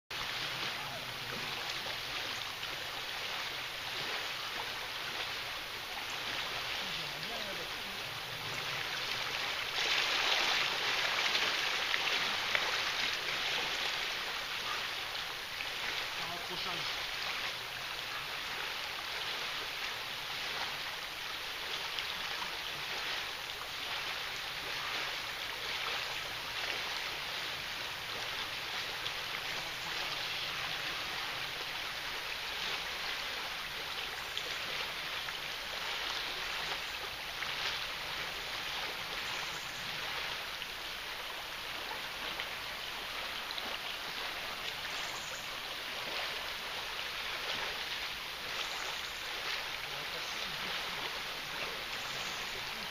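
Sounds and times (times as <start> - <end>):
river water rushing: 0.1 - 52.9.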